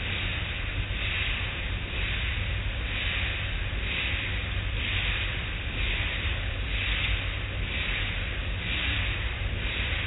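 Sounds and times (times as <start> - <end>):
machinery rumble: 0.0 - 10.0.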